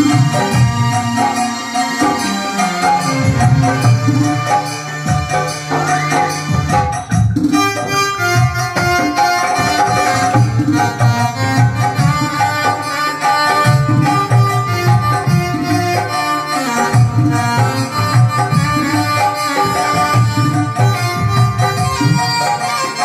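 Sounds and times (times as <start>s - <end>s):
electronic keyboard melody: 0.0s - 23.0s
hand drum rhythm: 0.0s - 23.0s.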